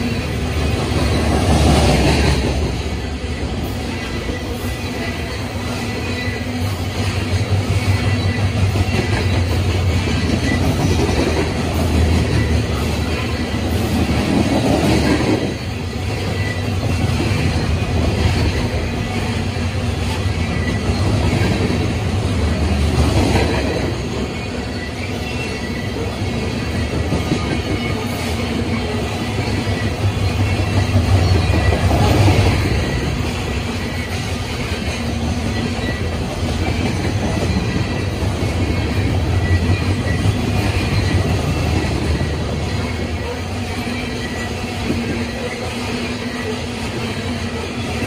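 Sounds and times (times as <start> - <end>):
faint high wheel squeal: 0.0 - 48.0
steel wheels rumbling on rails: 0.0 - 48.0.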